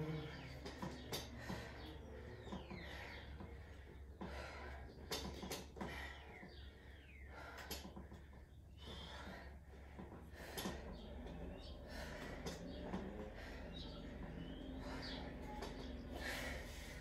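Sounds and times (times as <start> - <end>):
woman breathing hard: 1.1 - 17.0.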